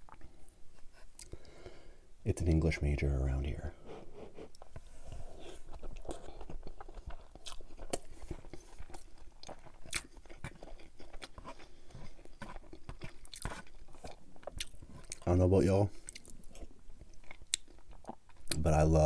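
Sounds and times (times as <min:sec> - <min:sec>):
person chewing food: 0:00.0 - 0:01.7, 0:03.8 - 0:15.3, 0:15.9 - 0:18.6.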